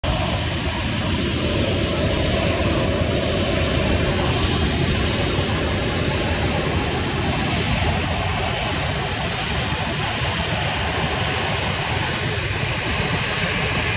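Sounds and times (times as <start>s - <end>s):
jet engines running: 0.0s - 13.9s.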